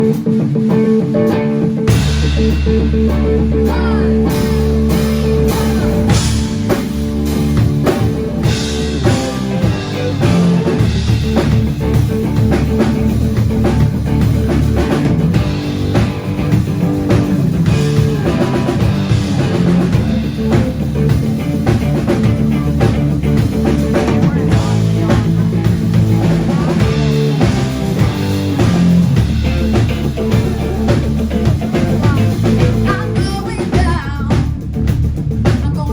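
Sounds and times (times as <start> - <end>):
live rock band playing: 0.0 - 35.6.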